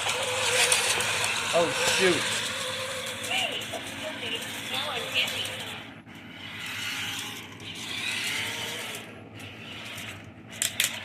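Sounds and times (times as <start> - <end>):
toy robot motors whirring: 0.0 - 11.0.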